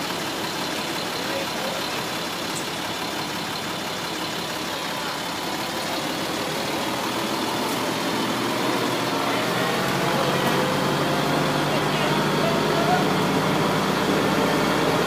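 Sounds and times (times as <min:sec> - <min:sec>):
large engine running: 0:00.0 - 0:15.0.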